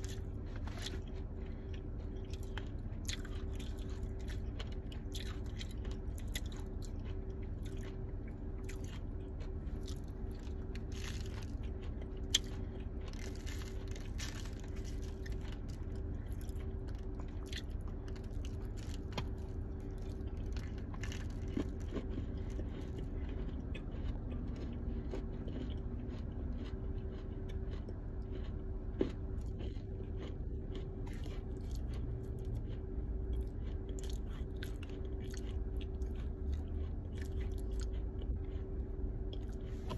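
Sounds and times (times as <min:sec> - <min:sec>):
dry clay crunching: 0:00.0 - 0:39.9.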